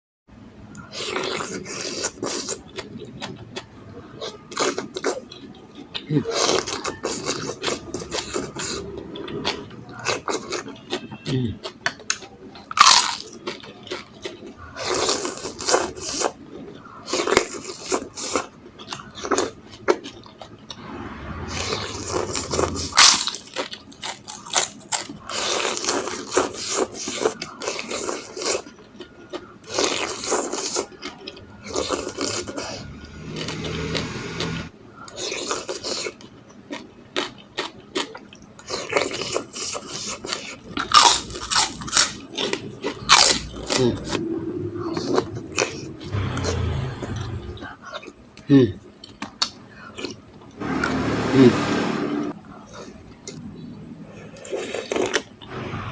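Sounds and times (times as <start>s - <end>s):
chewing: 0.8s - 44.2s, 44.8s - 50.6s, 54.1s - 55.6s.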